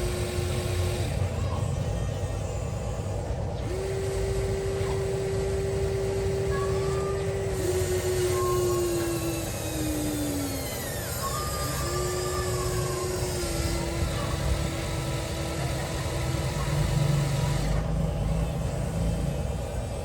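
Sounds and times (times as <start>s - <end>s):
toy excavator motors whining: 0.0s - 20.0s.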